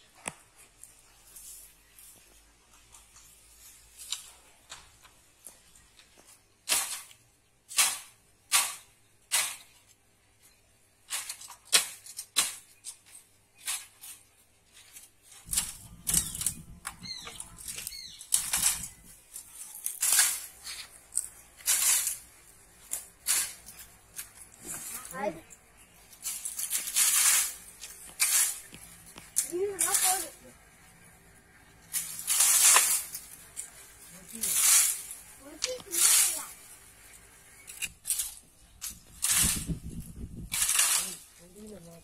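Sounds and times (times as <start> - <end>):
rustling of dry canes: 0.0 - 42.0
bamboo canes cracking and snapping: 2.2 - 30.3, 31.6 - 42.0.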